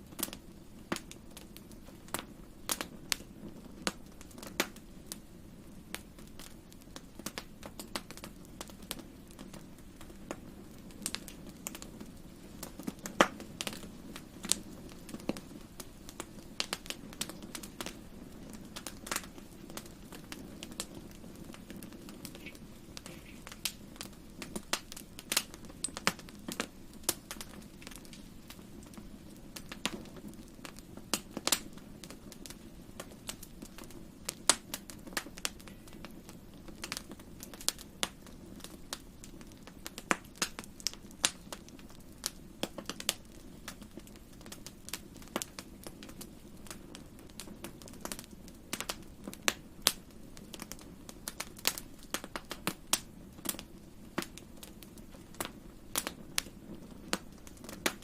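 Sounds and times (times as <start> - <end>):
fire crackling in fireplace: 0.0 - 58.0.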